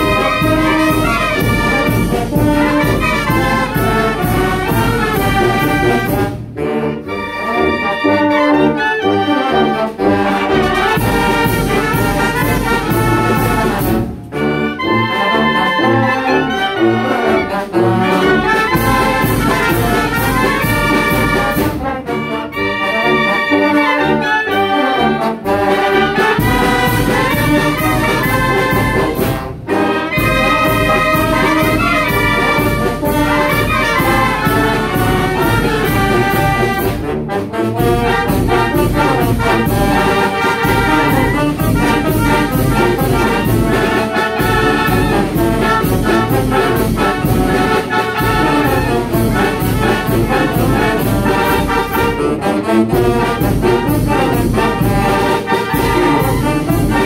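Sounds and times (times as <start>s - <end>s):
wind band playing: 0.0s - 57.0s.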